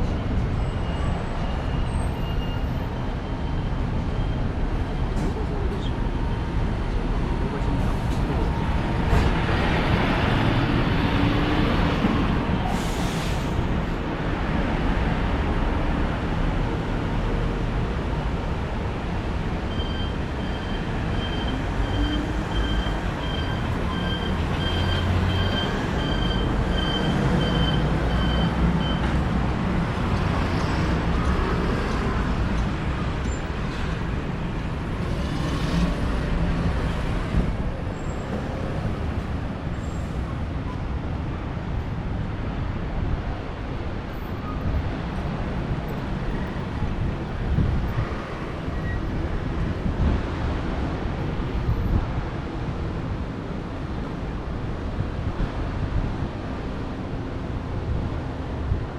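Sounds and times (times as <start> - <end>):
city street traffic: 0.0 - 58.9.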